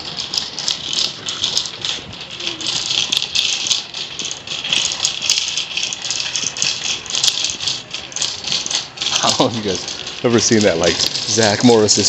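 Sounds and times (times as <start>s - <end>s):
wire shopping cart rattling: 0.0s - 12.0s.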